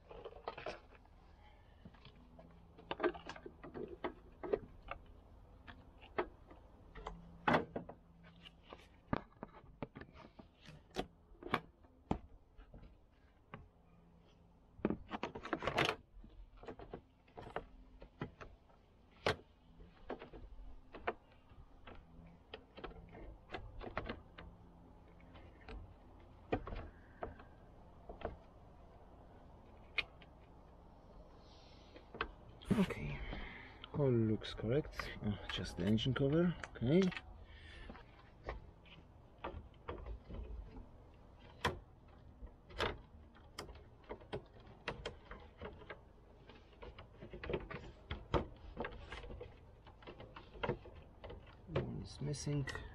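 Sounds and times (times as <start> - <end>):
plastic covers clicking and knocking: 1.8 - 30.6, 34.9 - 52.0.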